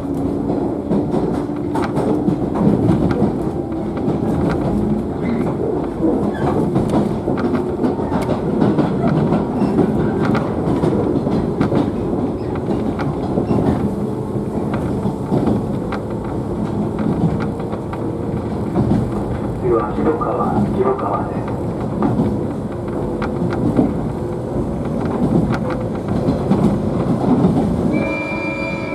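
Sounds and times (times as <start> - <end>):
train motor rumble and hum: 0.0 - 28.9
wheels clacking over track: 0.0 - 28.9.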